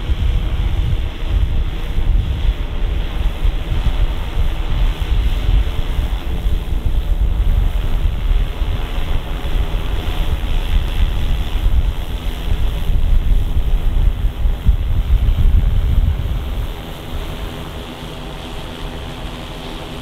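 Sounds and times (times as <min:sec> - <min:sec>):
wind buffeting microphone: 0:00.0 - 0:19.1.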